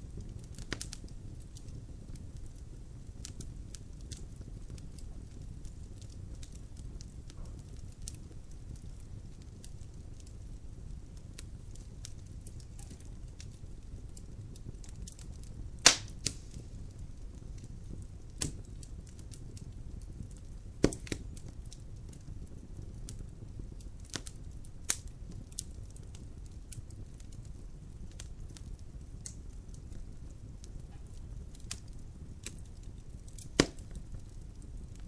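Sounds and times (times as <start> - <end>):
wood fire crackling: 0.0 - 35.0
sharp pops of fire: 0.1 - 2.4, 3.0 - 34.7.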